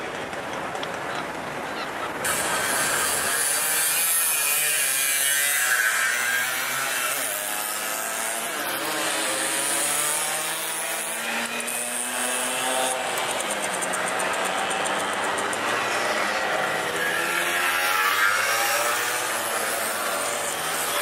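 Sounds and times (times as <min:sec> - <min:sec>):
moped engines buzzing: 0:00.0 - 0:21.0.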